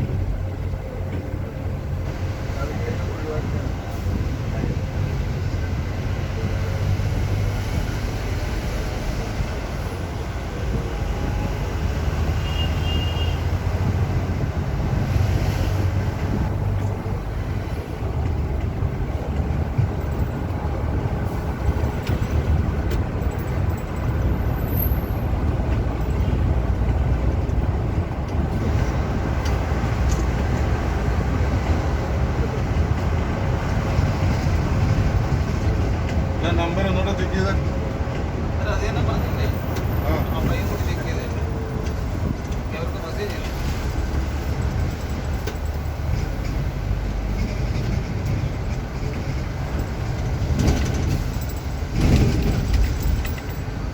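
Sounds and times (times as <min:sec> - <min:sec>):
bus engine drone: 0:00.0 - 0:53.9
road rumble: 0:00.0 - 0:53.9.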